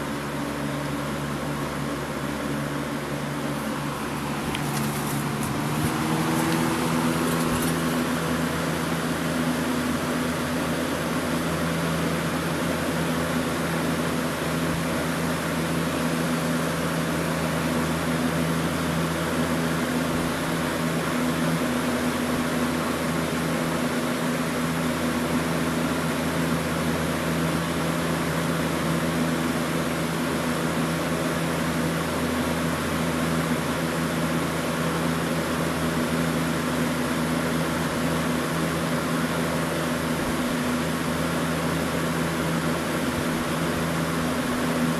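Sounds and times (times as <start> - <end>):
box fan running: 0.0 - 44.9.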